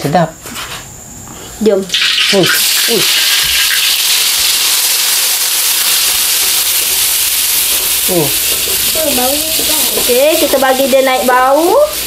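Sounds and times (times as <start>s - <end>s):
food sizzling in hot oil: 1.9s - 12.0s.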